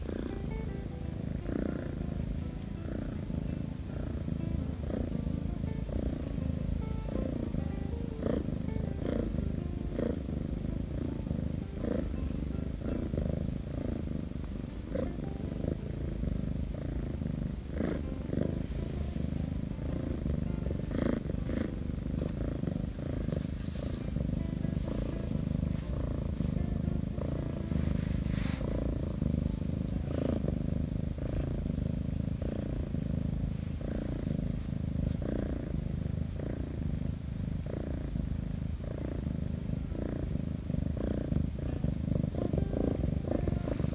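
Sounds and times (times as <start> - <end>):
kitten purring: 0.0 - 43.9.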